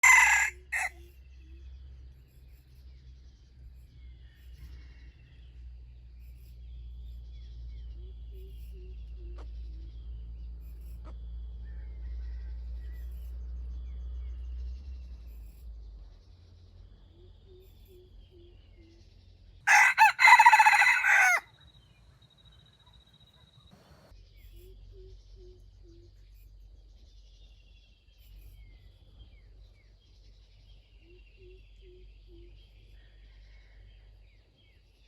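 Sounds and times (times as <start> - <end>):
faint chirping bird calls: 0.0 - 35.0.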